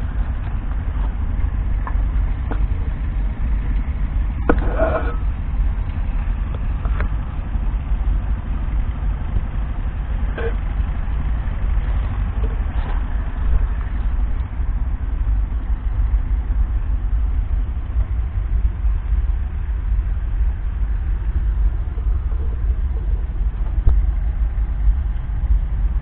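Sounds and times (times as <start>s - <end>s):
tractor diesel engine rumbling: 0.0s - 26.0s.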